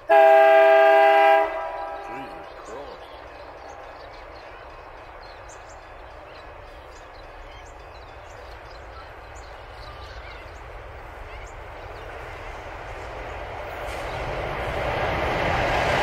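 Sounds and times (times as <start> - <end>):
diesel locomotive rumble: 0.0 - 16.0
small birds chirping: 1.5 - 16.0.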